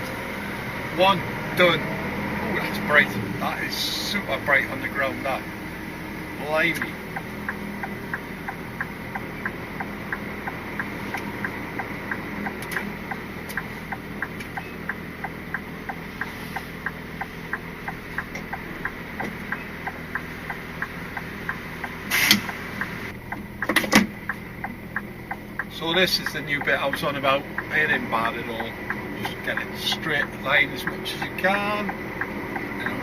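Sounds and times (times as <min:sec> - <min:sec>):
diesel engine running: 0:00.0 - 0:33.0
turn indicator ticking: 0:00.1 - 0:33.0.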